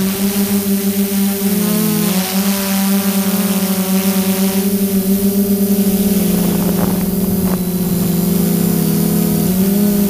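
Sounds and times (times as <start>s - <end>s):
drone propellers whirring: 0.0s - 10.0s.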